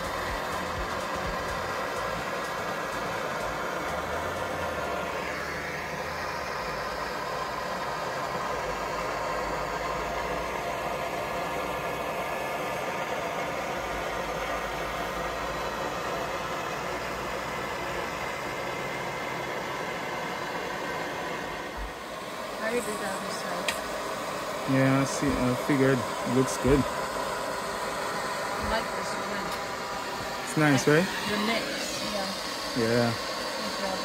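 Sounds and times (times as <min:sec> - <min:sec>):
gas torch hissing: 0:00.0 - 0:34.0.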